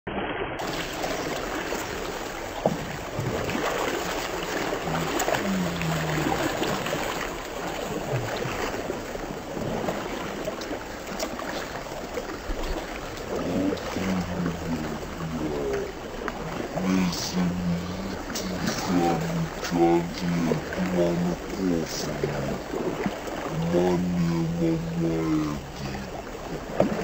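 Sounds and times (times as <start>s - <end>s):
floodwater rushing: 0.6s - 27.0s.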